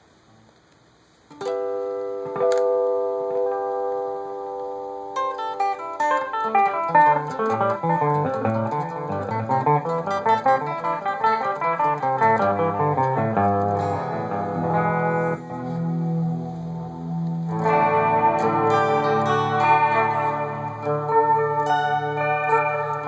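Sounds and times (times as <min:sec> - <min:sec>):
clean electric guitar notes: 0:01.4 - 0:23.0.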